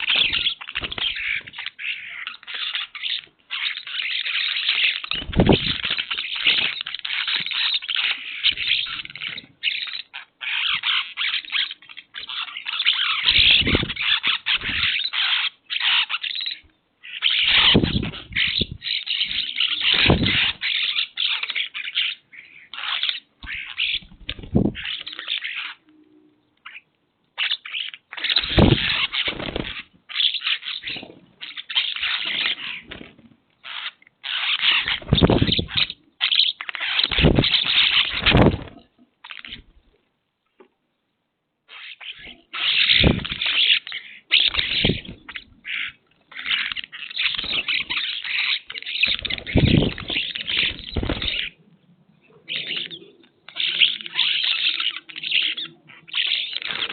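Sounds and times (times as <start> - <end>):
flock of birds chattering: 0.0 - 39.9, 41.7 - 56.9.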